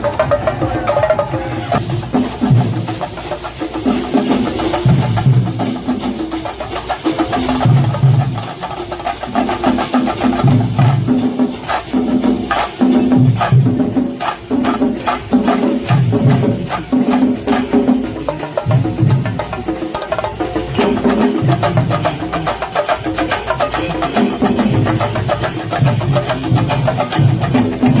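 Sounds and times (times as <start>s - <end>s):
percussion-led festival music: 0.0s - 28.0s.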